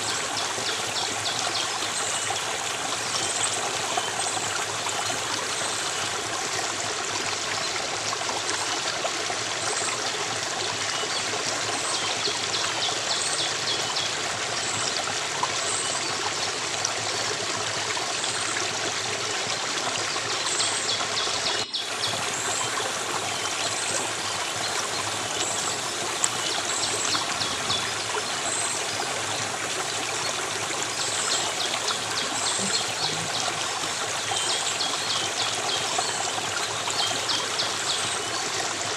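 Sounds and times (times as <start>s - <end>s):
stream of water running: 0.0s - 38.9s.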